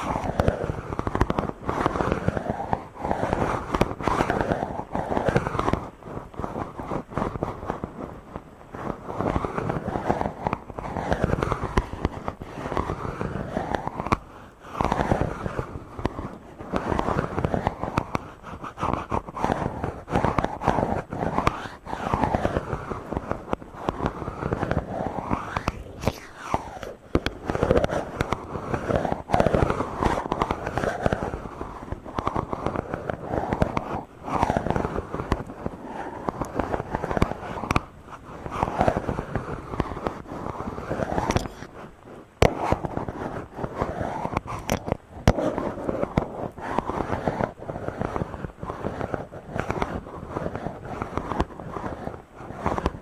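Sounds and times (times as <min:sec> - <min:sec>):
hands rubbing on microphone: 0:00.0 - 0:53.0.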